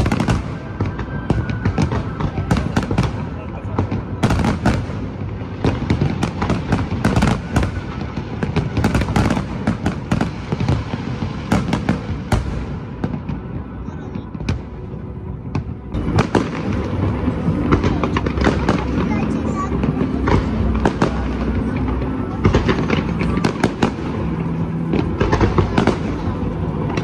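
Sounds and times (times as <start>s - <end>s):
fireworks bursting and crackling: 0.0s - 27.0s.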